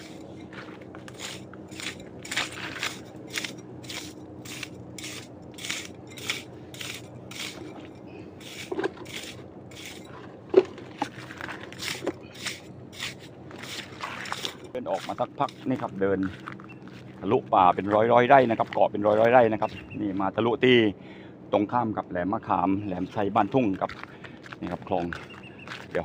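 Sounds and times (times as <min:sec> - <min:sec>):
footsteps crunching on dry ground: 0:00.0 - 0:20.4, 0:22.8 - 0:26.0.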